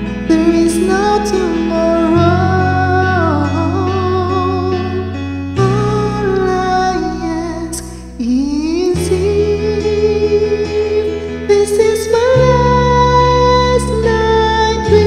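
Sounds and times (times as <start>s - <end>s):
karaoke backing track: 0.0s - 15.0s
man singing a ballad: 0.0s - 15.0s.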